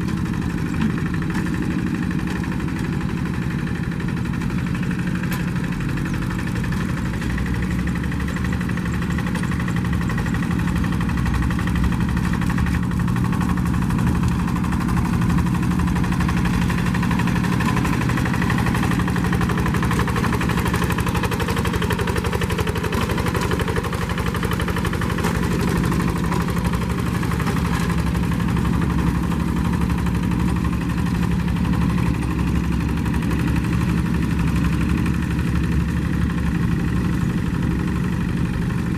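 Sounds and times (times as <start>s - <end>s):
tractor engine running steadily: 0.0s - 38.9s.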